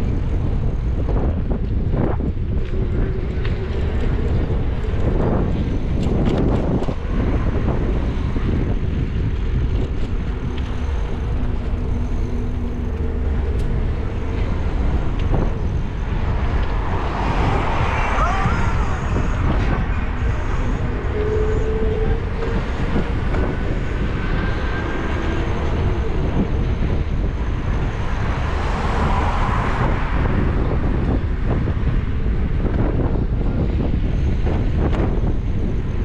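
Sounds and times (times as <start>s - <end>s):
car driving rumble: 0.0s - 36.0s
traffic noise: 0.0s - 36.0s.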